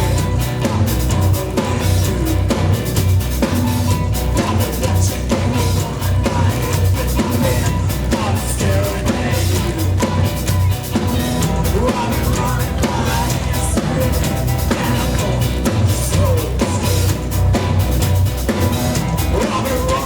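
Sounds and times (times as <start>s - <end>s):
drum kit: 0.0s - 20.0s
heavy pulsing bass line: 0.0s - 20.0s
live rock band: 0.0s - 20.0s.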